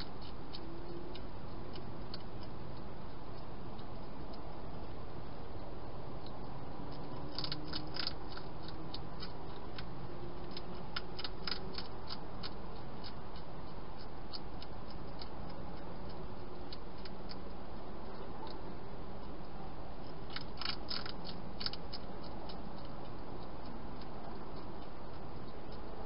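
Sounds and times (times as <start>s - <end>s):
hedgehog crunching dry food: 0.0s - 4.9s, 6.2s - 26.0s.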